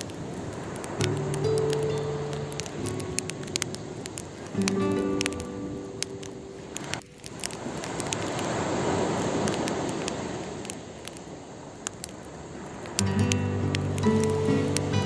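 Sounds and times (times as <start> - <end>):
campfire crackling and popping: 0.0 - 15.0
sea wave washing on shore: 0.0 - 15.0.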